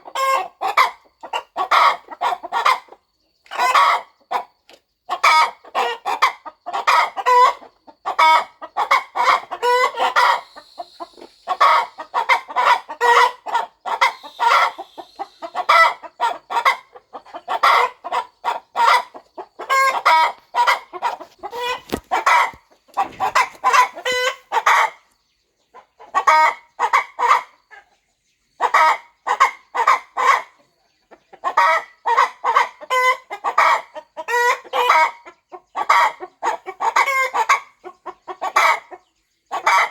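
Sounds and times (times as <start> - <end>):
hen clucking: 0.0 - 39.9.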